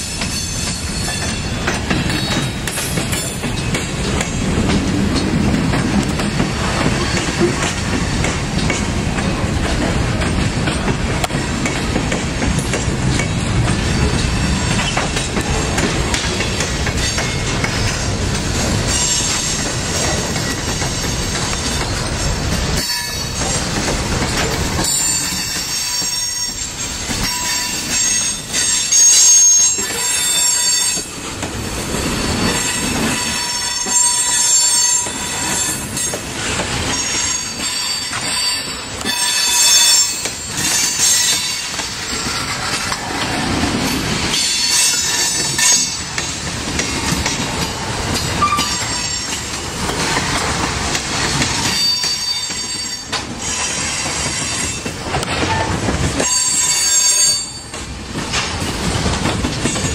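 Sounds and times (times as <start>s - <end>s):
freight train rumble and clatter: 0.0s - 59.9s
train wheels squealing on rails: 0.0s - 59.9s.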